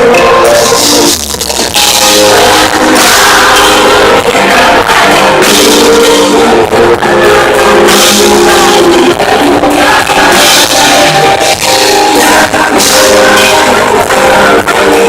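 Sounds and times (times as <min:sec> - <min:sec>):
drum kit: 0:00.0 - 0:15.0
live pop band through speaker: 0:00.0 - 0:15.0
person singing: 0:00.0 - 0:15.0.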